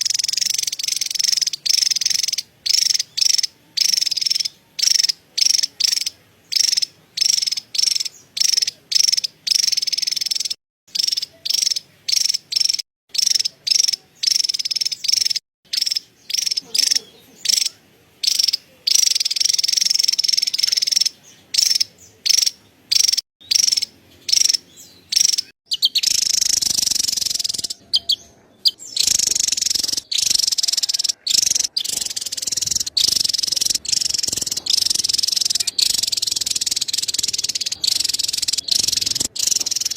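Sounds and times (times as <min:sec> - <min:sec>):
bird chattering: 0:00.0 - 0:39.9.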